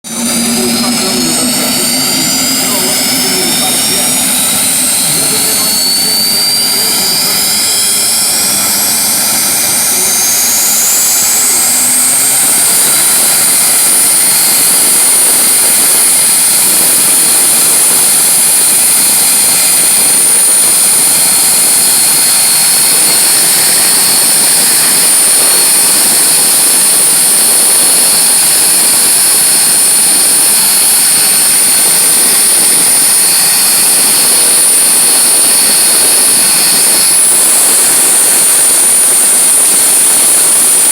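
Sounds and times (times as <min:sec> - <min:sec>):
jet engine whine: 0:00.0 - 0:40.9.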